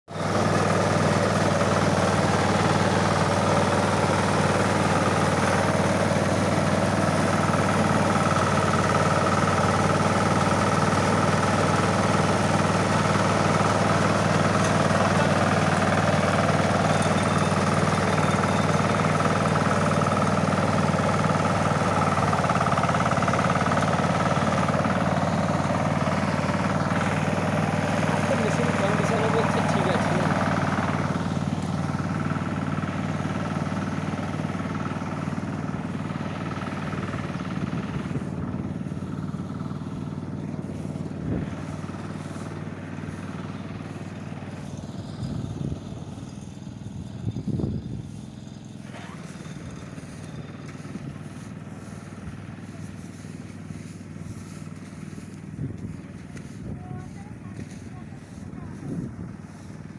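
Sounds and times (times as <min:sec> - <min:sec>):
harvester engine hum: 0:00.0 - 0:59.9.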